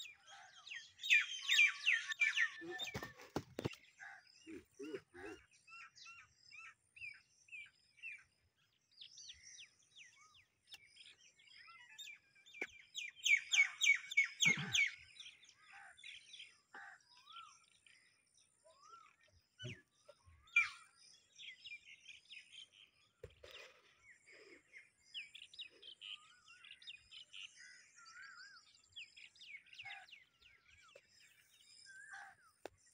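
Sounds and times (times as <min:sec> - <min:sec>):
small birds chirping and singing: 0:00.0 - 0:32.9.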